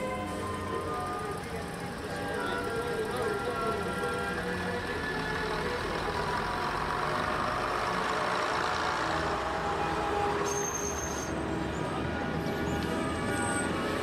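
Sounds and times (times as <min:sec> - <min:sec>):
train diesel engine running: 0:00.0 - 0:14.0.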